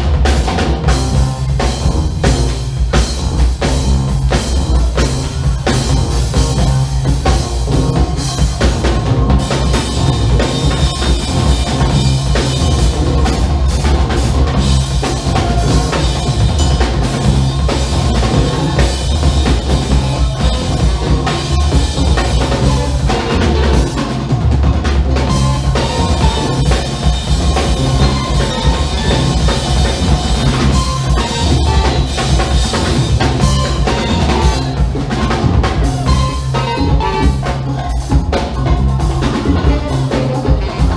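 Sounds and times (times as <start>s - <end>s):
deep bass line: 0.0s - 40.9s
drum kit kick and snare: 0.0s - 40.9s
funk band playing live: 0.0s - 40.9s.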